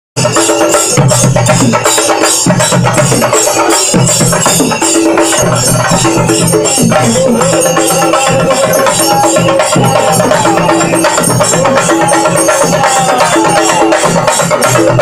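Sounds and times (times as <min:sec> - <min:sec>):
drums beaten with sticks: 0:00.2 - 0:15.0.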